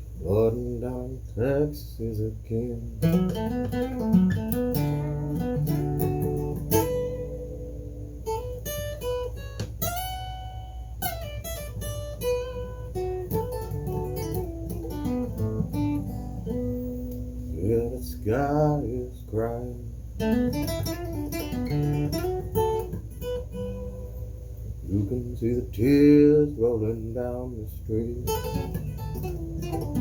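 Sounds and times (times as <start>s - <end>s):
acoustic guitar blues lead: 0.1s - 30.0s.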